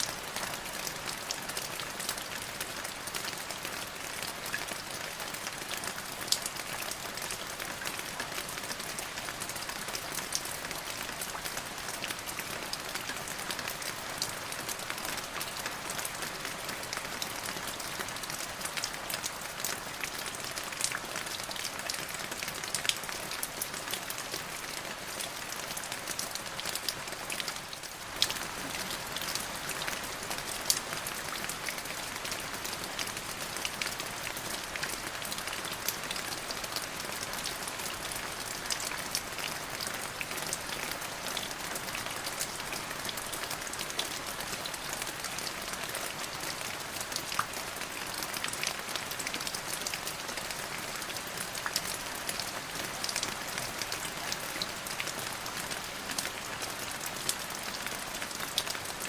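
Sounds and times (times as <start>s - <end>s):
hiss of falling rain: 0.0s - 59.0s.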